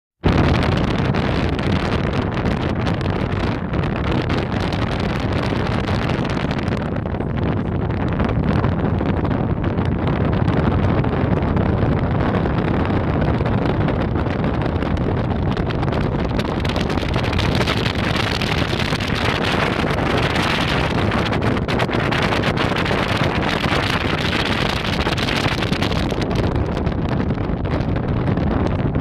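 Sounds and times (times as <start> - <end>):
boat engine running: 0.2 - 29.0
wind buffeting microphone: 0.2 - 29.0.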